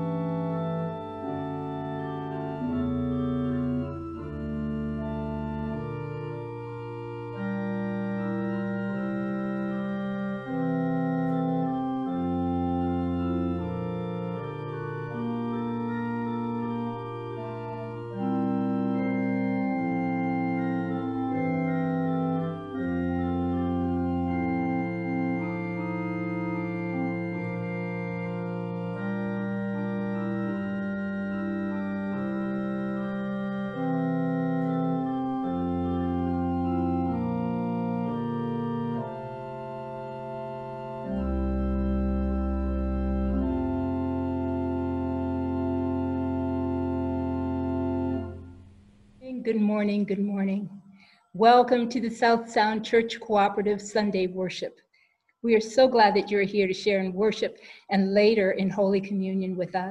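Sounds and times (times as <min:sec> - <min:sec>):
organ playing sustained chords: 0:00.0 - 0:54.7.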